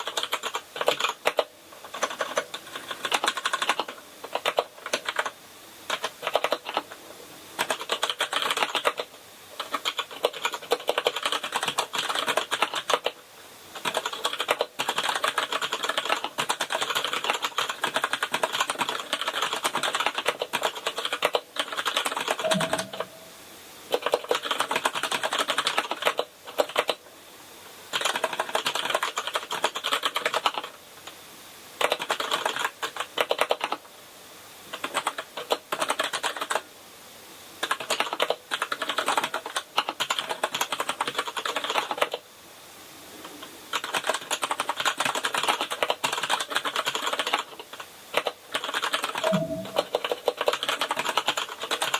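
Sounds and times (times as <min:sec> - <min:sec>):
mechanical keyboard typing: 0:00.0 - 0:05.3, 0:05.9 - 0:06.9, 0:07.6 - 0:13.2, 0:13.8 - 0:23.2, 0:23.9 - 0:27.0, 0:27.9 - 0:30.7, 0:31.8 - 0:33.8, 0:34.7 - 0:36.6, 0:37.6 - 0:42.2, 0:43.7 - 0:51.9.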